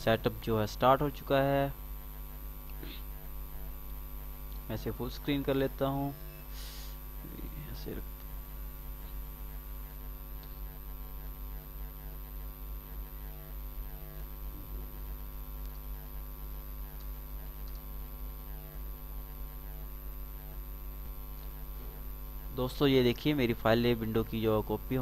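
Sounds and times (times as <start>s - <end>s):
electrical hum: 0.0s - 25.0s
thin high-pitched whine: 0.0s - 25.0s.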